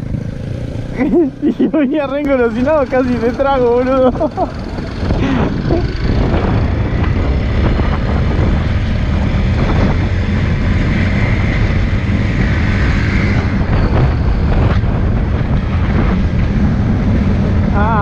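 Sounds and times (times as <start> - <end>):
motorcycle engine running: 0.0 - 18.0
wind noise on microphone: 3.2 - 18.0.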